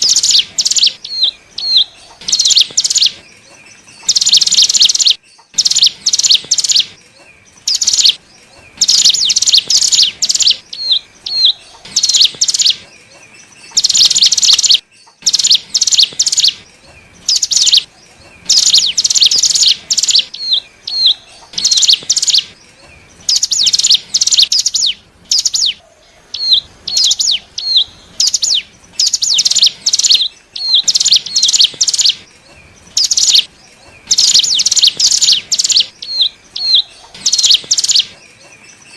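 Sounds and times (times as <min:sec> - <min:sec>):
bird high rapid chattering: 0:00.0 - 0:38.9.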